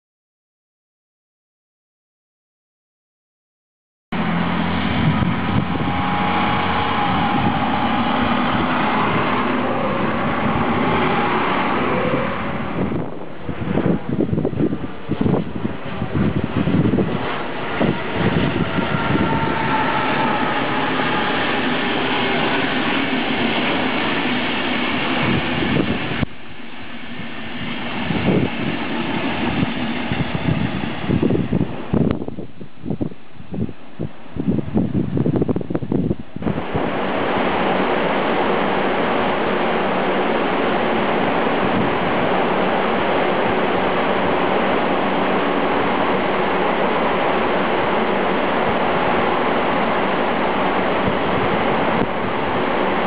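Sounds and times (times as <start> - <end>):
steady whine: 4.1 - 32.9, 35.4 - 53.0
railcar diesel engine droning: 4.1 - 53.0
train wheels rumbling on track: 4.2 - 53.0.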